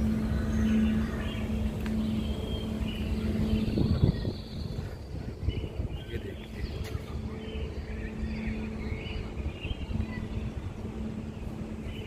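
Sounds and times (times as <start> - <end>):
low rumble: 0.0 - 12.0
steady machine hum: 0.0 - 12.0.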